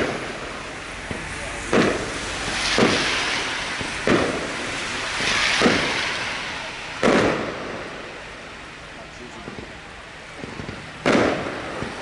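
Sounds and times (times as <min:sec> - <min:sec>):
firework bangs: 0:00.0 - 0:12.0
firework crackle: 0:00.0 - 0:12.0.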